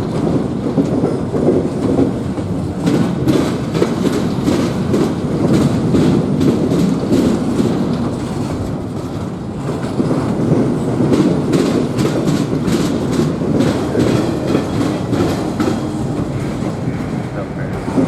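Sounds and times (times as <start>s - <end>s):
train railcars rumbling: 0.0s - 18.0s
wheels clicking over rail joints: 0.1s - 18.0s.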